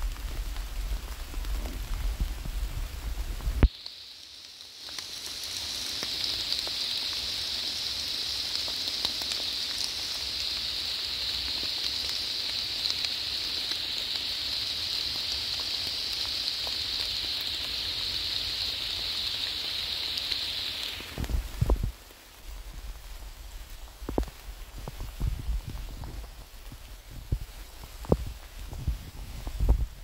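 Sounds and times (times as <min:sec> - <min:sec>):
heavy rain hissing: 0:00.0 - 0:30.0
raindrops tapping close by: 0:00.0 - 0:30.0.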